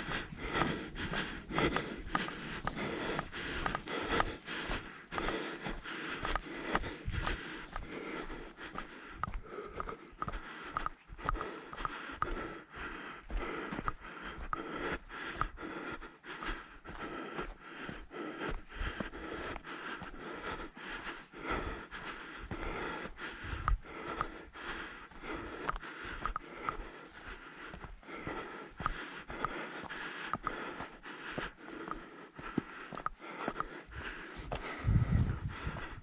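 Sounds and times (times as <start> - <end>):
footsteps on trail: 0.0 - 36.0
person panting: 0.0 - 36.0.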